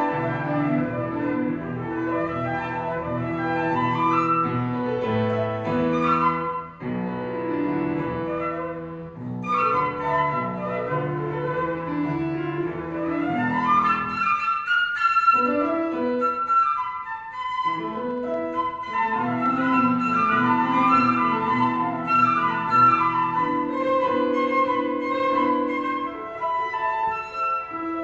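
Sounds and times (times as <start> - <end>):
flute melody: 0.0 - 28.0
grand piano playing: 0.0 - 28.0.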